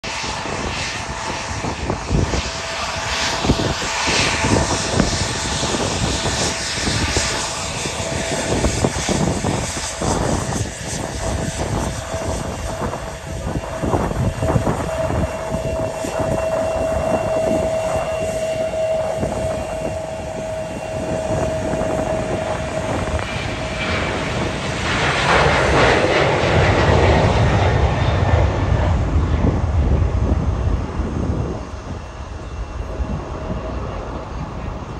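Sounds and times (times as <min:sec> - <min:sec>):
jet engines on takeoff: 0:00.0 - 0:34.9.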